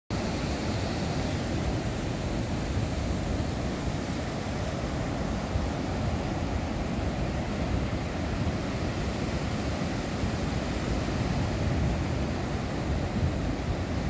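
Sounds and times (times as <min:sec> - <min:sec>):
ocean surf breaking on beach: 0:00.1 - 0:14.0.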